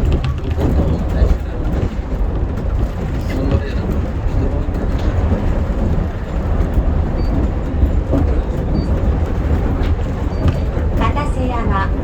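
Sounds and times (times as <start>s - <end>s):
monorail running gear rumble: 0.0s - 12.0s.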